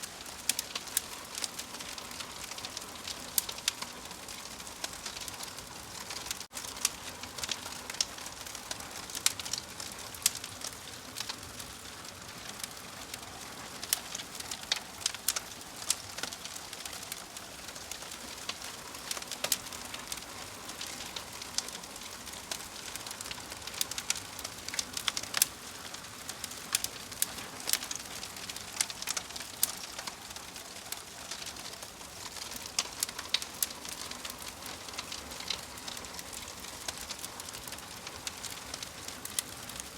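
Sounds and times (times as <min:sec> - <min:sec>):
wood fire crackling and hissing: 0:00.0 - 0:39.9
fire pops and snaps: 0:00.2 - 0:39.9.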